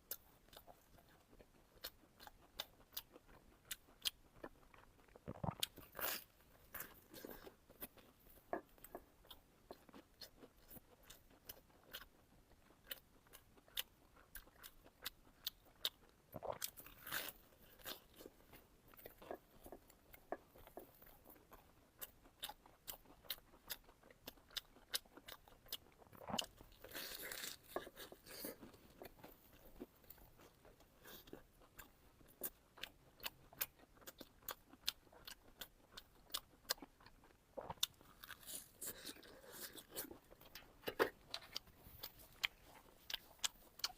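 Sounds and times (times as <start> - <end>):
crunchy bites and chewing: 0.0 - 43.9.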